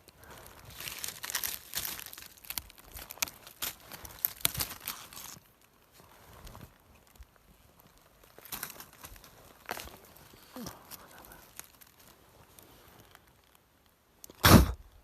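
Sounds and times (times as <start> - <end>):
dry leaves rustling and crackling: 0.0 - 14.0.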